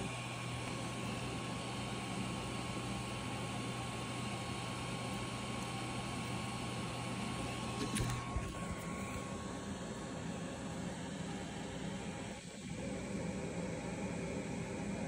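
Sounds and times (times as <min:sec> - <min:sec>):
cooling fans whirring: 0:00.0 - 0:15.0.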